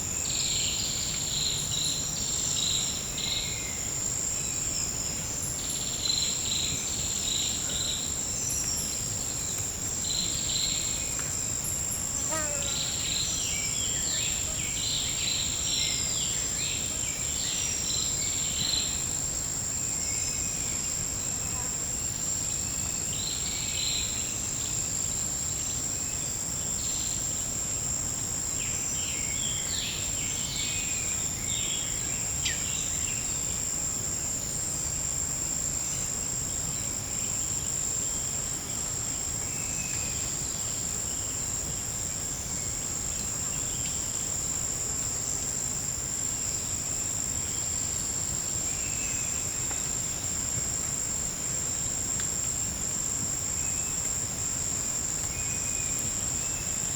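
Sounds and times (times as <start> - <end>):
short insect chirping calls: 0.0 - 56.9.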